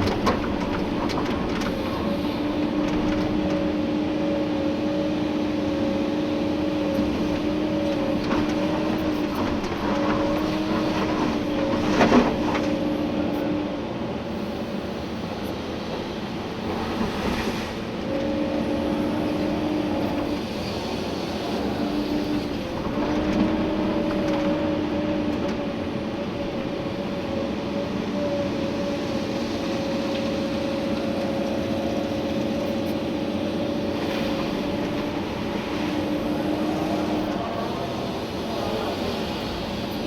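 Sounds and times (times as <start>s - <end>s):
excavator engine and hydraulics: 0.0s - 40.0s.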